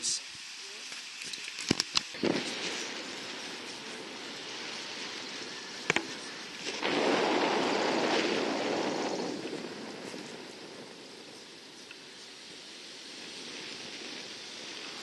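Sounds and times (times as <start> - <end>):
rush of noise: 0.0 - 15.0.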